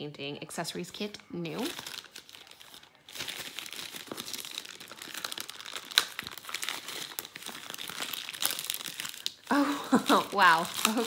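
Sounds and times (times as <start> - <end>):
plastic mailer crinkling: 1.6 - 11.0.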